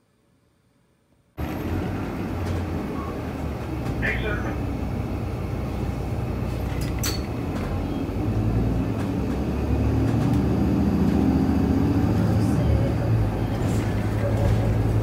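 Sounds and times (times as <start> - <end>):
bus engine running: 1.4 - 15.0.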